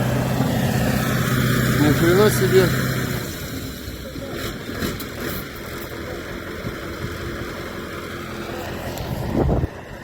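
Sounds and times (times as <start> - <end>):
tractor diesel engine under load: 0.0 - 10.0.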